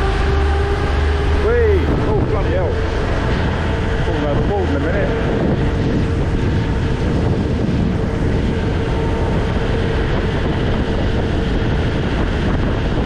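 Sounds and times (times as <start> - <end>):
boat engine humming: 0.0 - 13.0
water rushing from wake: 0.0 - 13.0
wind on microphone: 0.0 - 13.0.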